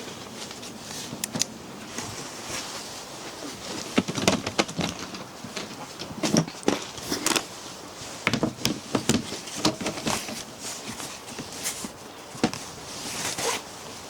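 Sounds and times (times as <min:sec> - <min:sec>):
steady noisy background: 0:00.0 - 0:14.0.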